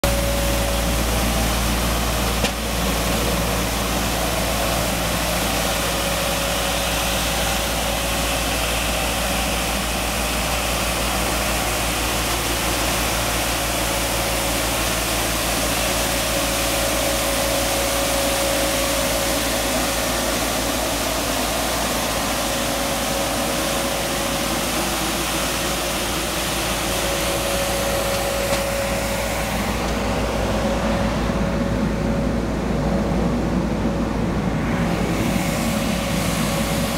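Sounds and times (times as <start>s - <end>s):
street sweeper engine whine: 0.0s - 36.9s.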